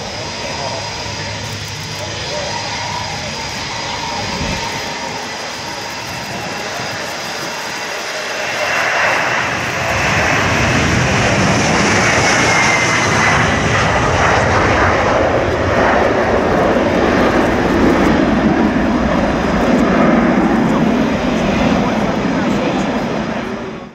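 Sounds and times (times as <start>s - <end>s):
jet engines at takeoff thrust: 0.0s - 23.9s.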